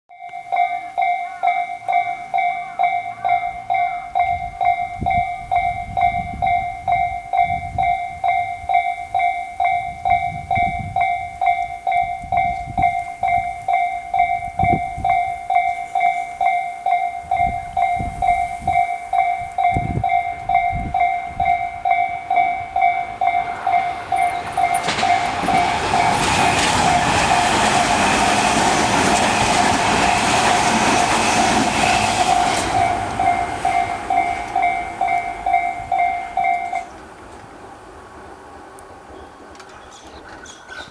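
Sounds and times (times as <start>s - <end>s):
electronic crossing bell dinging: 0.1s - 37.0s
train wheels rushing on rails: 1.0s - 40.9s.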